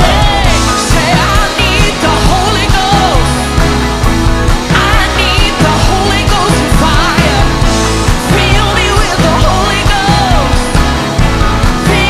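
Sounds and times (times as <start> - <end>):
loud band music: 0.0 - 12.0.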